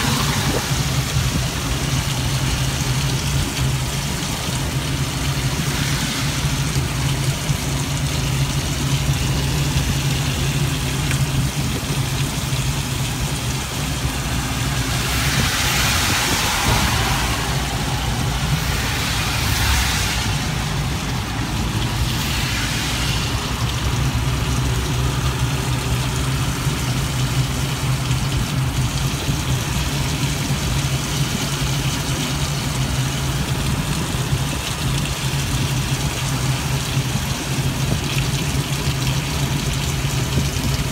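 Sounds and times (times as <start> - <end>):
rushing swish of water spray: 0.0 - 40.9
wet hiss of road: 0.0 - 40.9.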